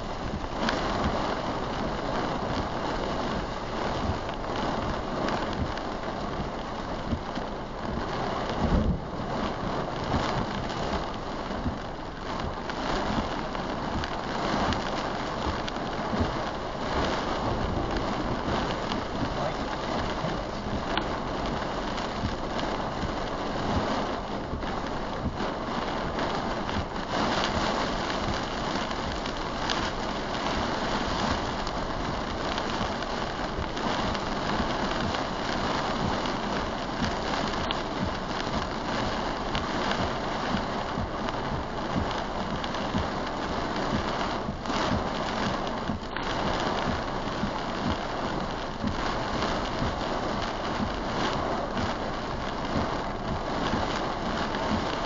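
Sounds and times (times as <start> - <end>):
heavy rain on vehicle: 0.0 - 55.0.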